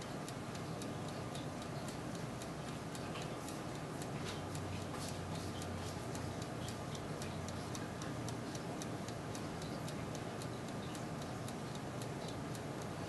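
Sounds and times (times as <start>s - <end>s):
oven fan whir: 0.0s - 13.0s.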